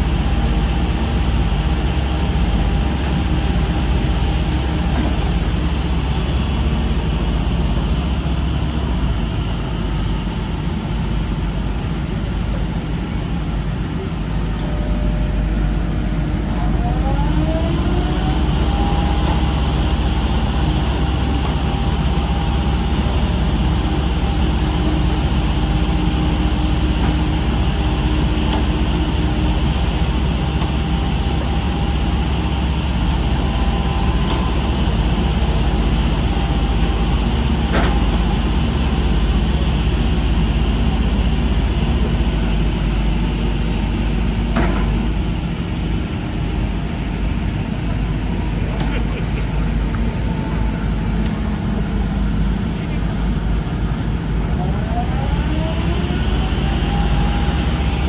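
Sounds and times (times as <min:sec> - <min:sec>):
diesel engine rumbling: 0:00.0 - 0:58.0
steady whine: 0:00.0 - 0:58.0.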